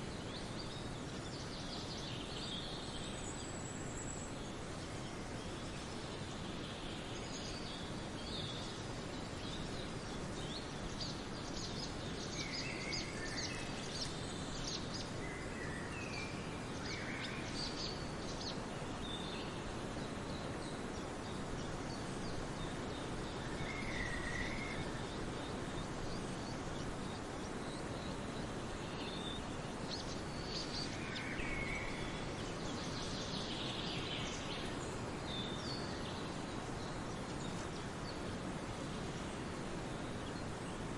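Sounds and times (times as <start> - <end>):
forest birds chirping: 0.0 - 40.9
steady background hiss: 0.0 - 40.9.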